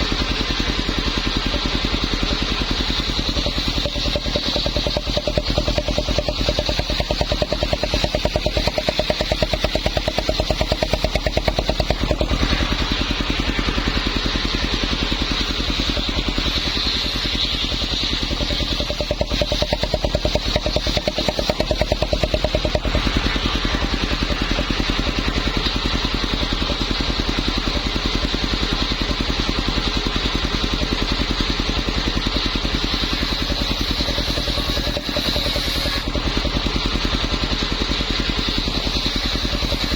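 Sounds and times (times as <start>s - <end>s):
small engine driving circular saw: 0.0s - 39.9s.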